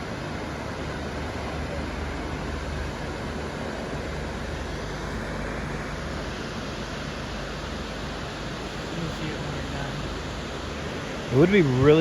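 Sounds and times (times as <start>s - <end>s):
helicopter flying overhead: 0.0s - 12.0s
waterfall roaring: 0.0s - 12.0s.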